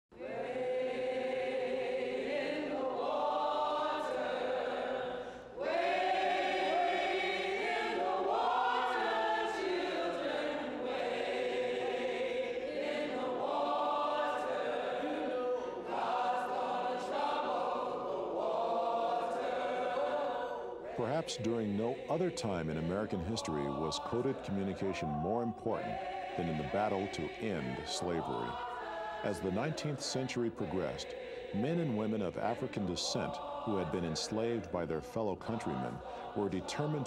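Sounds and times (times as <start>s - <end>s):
choir singing held notes: 0.1s - 37.0s.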